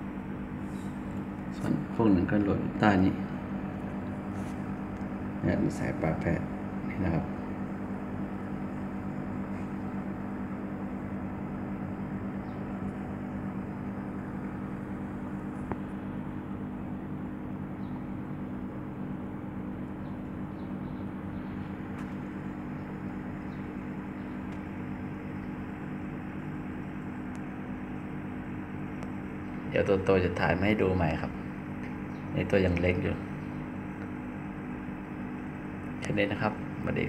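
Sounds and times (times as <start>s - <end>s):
aquarium pump humming: 0.0s - 37.0s.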